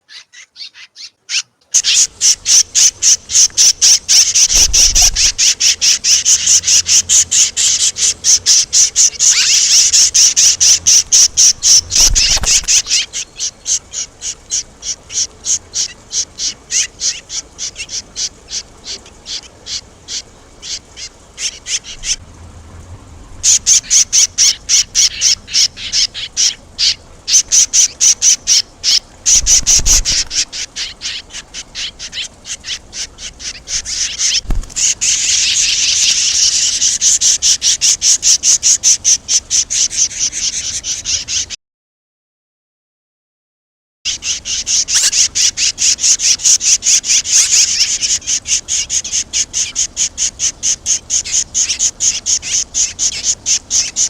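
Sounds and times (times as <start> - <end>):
swallows chirping: 0.0 - 22.4, 23.1 - 41.6, 44.1 - 54.0.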